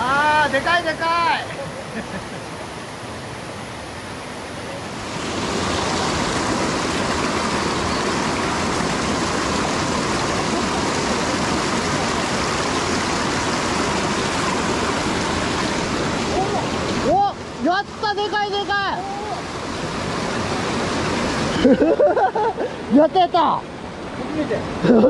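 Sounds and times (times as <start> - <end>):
stream water rushing over rocks: 0.0 - 25.0.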